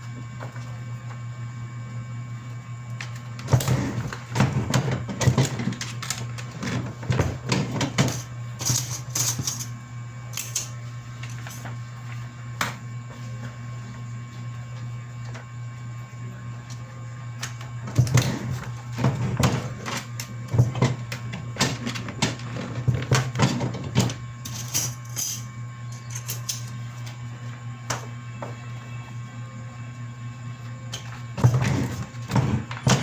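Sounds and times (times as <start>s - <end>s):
printer hum: 0.0s - 24.7s, 25.6s - 33.0s.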